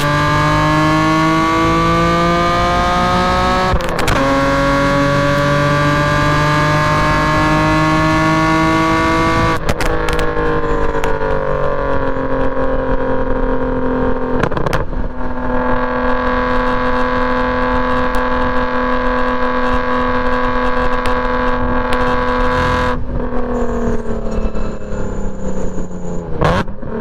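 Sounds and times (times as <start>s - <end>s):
car engine revving on track: 0.0s - 27.0s.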